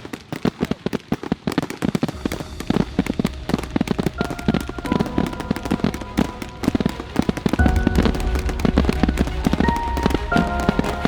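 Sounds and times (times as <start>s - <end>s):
fireworks popping and crackling: 0.0s - 11.0s
music: 2.1s - 11.0s.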